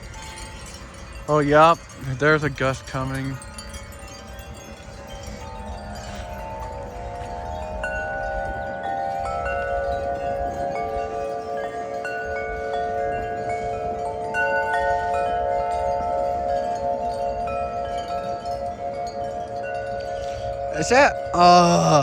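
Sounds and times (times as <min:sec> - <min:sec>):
wind chimes ringing: 0:00.0 - 0:22.0
wind rumbling on microphone: 0:00.0 - 0:22.0.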